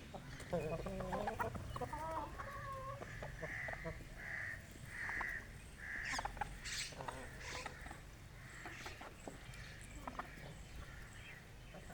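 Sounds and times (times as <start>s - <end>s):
chickens calling: 0.0s - 11.9s.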